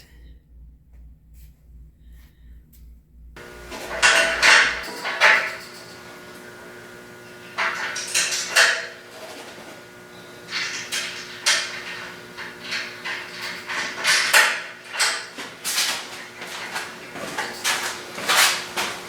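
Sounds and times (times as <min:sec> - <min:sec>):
metal parts clanking and rattling: 0:03.4 - 0:19.0.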